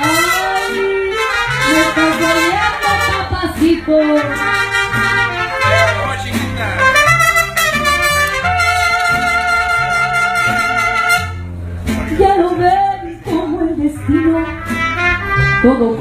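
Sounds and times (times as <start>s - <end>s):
trumpets playing melody: 0.0s - 11.5s, 13.8s - 16.0s
bass line: 0.0s - 16.0s
strummed guitars: 0.0s - 16.0s.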